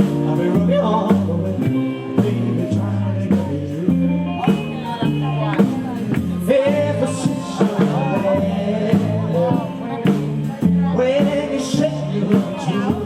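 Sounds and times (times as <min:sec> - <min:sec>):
live rock and roll band: 0:00.0 - 0:13.0.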